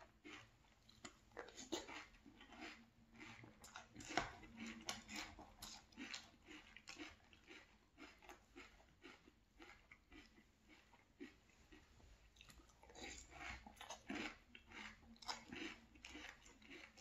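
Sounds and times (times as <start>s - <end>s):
chewing cereal crunches: 0.0s - 17.0s.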